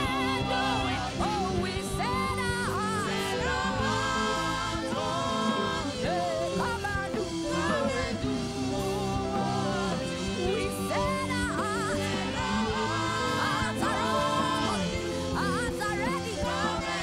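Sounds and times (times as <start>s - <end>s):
backing singers: 0.0s - 17.0s
instrumental accompaniment: 0.0s - 17.0s
woman singing into microphone: 0.0s - 17.0s.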